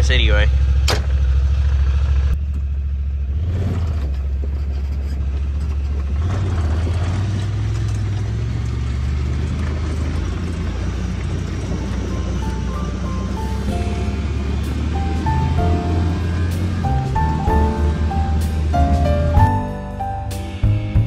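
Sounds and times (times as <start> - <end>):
tyre and road noise: 0.0 - 21.0
vehicle engine running: 0.0 - 21.0.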